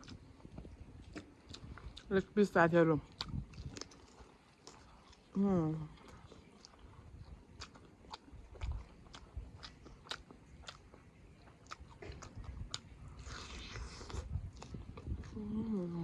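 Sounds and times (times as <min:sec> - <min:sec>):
chewing with mouth clicks: 0:00.0 - 0:16.0.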